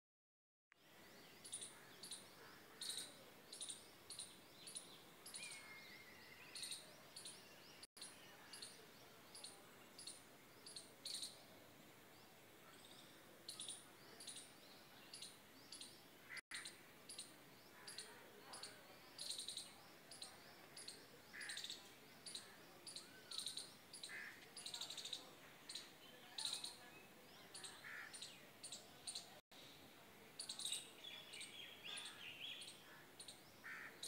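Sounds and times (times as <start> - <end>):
small birds chirping: 0.8 - 34.0.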